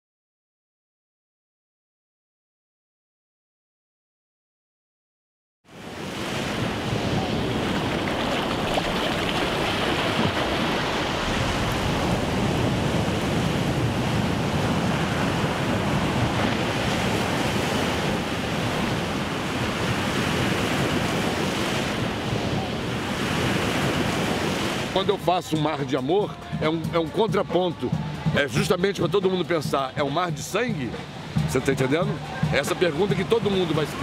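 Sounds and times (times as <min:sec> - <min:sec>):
waves washing on sandy beach: 0:05.7 - 0:34.0.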